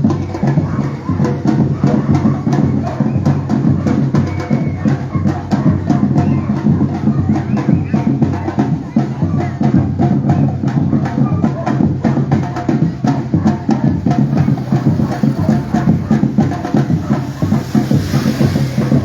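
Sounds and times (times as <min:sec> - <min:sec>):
percussion band drumming: 0:00.0 - 0:19.0.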